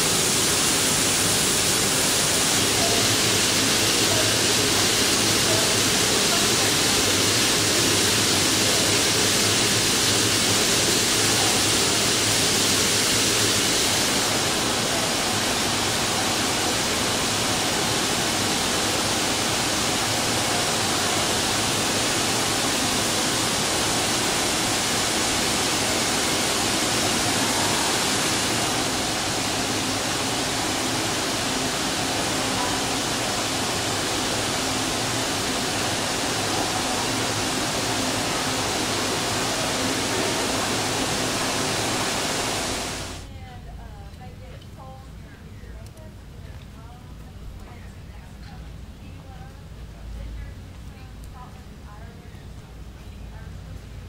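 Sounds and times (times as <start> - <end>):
distillery equipment rushing noise: 0.0 - 43.3.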